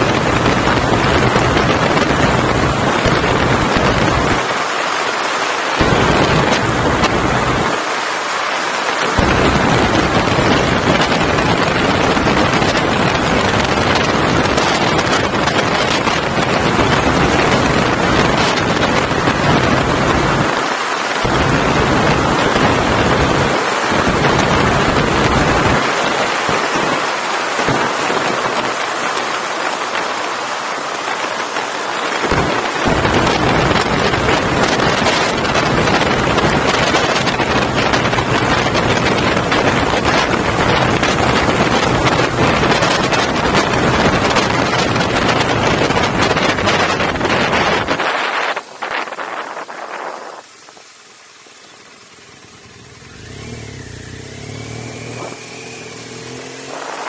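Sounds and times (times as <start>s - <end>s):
wind rushing over microphone: 0.0s - 50.9s, 52.4s - 57.0s.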